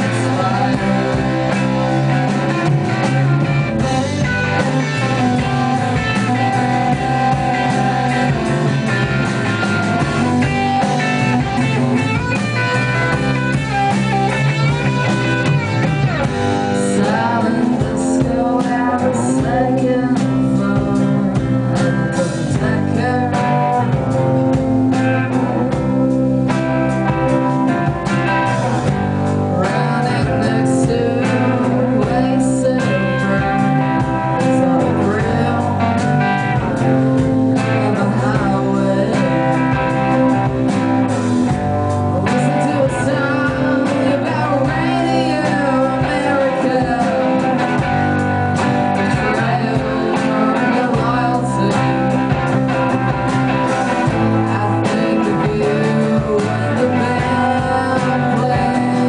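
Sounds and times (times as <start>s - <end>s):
blues electric guitar: 0.0s - 59.0s
rock band playing live: 0.0s - 59.0s.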